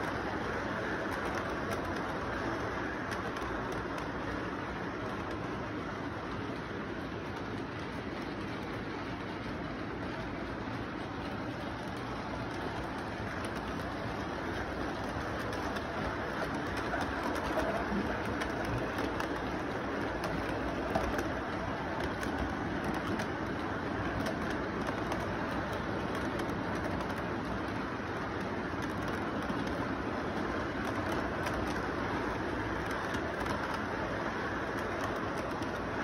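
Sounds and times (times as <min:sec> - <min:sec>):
model train rumbling along track: 0:00.0 - 0:36.0
wheels clicking on rails: 0:00.0 - 0:36.0.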